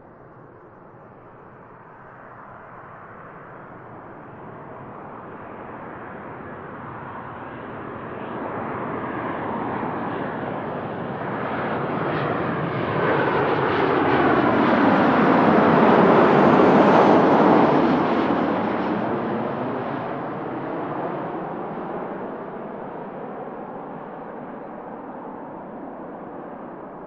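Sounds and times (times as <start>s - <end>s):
jet engines roaring: 1.6s - 27.0s.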